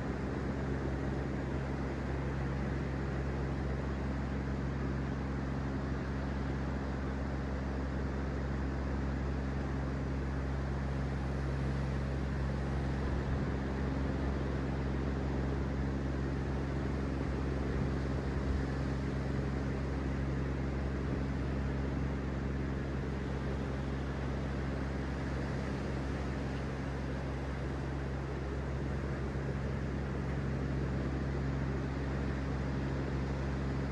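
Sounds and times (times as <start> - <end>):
constant low hum: 0.0 - 33.9.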